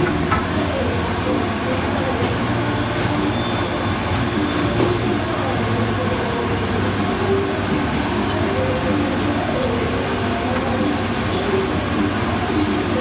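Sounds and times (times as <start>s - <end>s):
machine motor hum and rumble: 0.0s - 13.0s.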